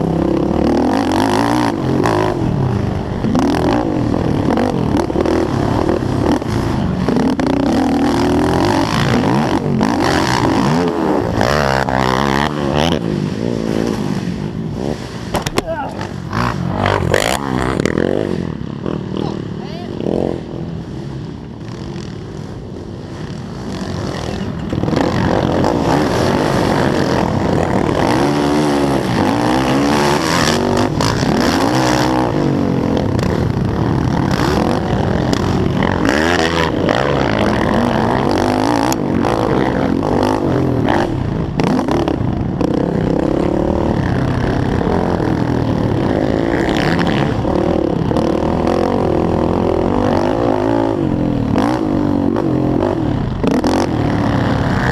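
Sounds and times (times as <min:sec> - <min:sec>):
quad engine revving: 0:00.0 - 0:19.4, 0:23.6 - 0:54.9.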